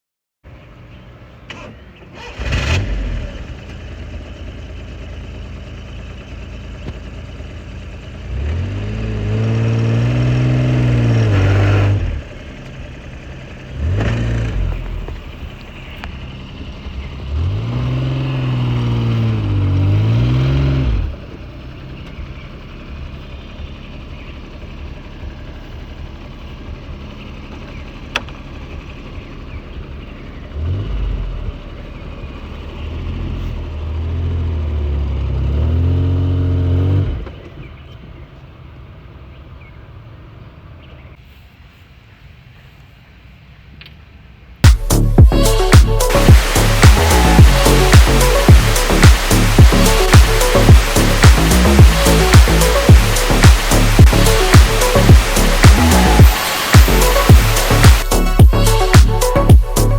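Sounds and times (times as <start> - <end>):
small car engine revving: 0.9 - 41.1, 44.6 - 59.9.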